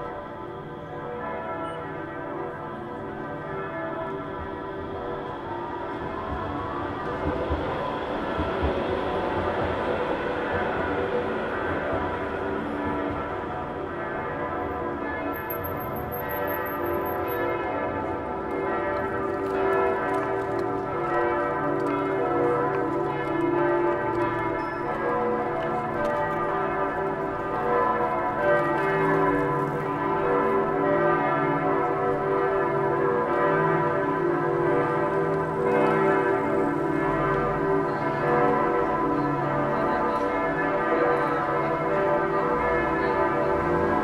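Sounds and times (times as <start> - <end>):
church bells pealing: 0.0 - 44.0.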